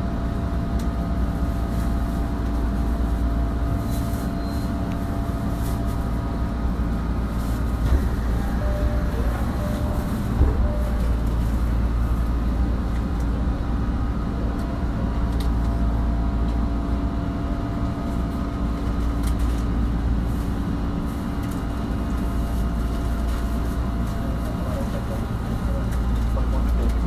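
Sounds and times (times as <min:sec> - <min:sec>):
stationary train humming: 0:00.0 - 0:27.0.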